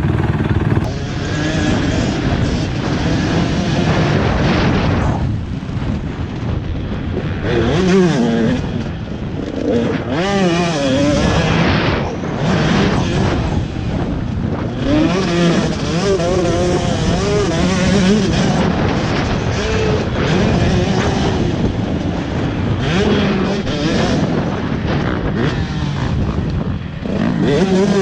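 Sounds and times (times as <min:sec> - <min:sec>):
motocross engine revving: 0:00.0 - 0:05.0, 0:06.3 - 0:28.0.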